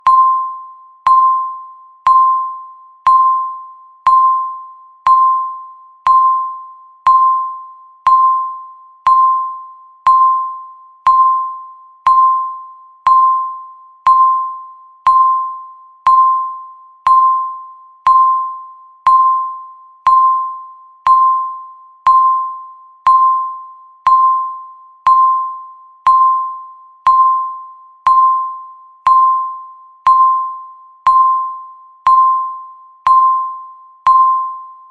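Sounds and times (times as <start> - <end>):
electronic timer beeps: 0.0 - 34.9.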